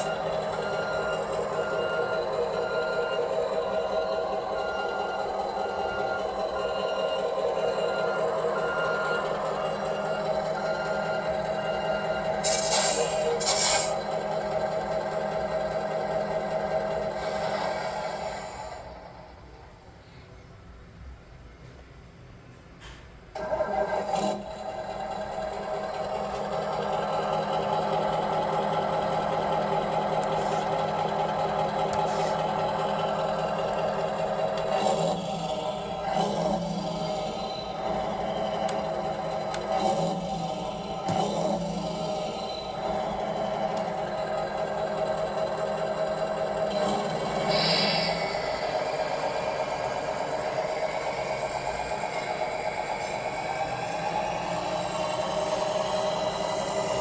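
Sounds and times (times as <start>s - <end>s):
model truck motor running: 0.0s - 19.2s, 23.4s - 57.0s.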